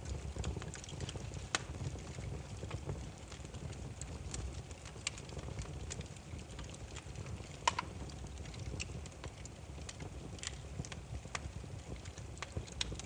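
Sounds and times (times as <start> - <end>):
low rumble of flames: 0.0 - 13.0
wood fire crackling: 0.0 - 13.0.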